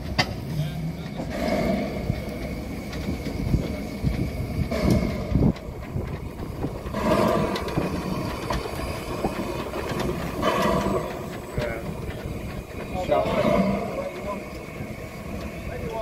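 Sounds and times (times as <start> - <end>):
sharp knocks from wheels: 0.0 - 16.0
steam locomotive moving slowly: 0.0 - 16.0.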